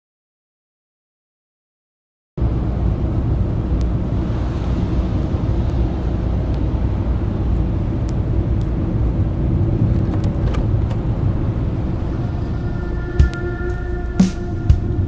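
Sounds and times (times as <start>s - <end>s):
low rumbling noise: 2.4s - 15.0s.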